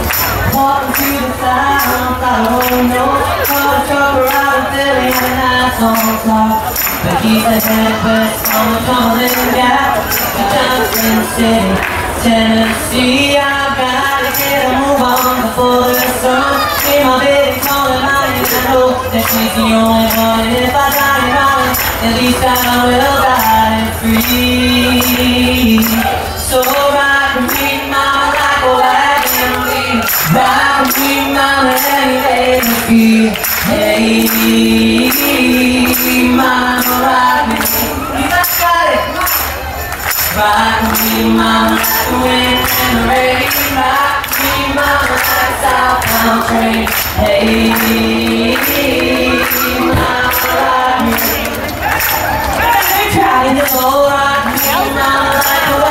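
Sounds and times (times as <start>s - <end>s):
hand claps: 0.0s - 13.3s, 14.0s - 55.9s
jingly percussive beat: 0.0s - 55.9s
man singing into a microphone: 0.0s - 55.9s.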